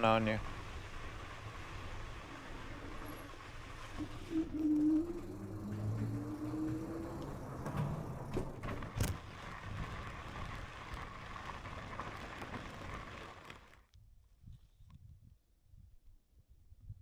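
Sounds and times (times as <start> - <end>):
bike tyre and wind noise: 0.0 - 17.0.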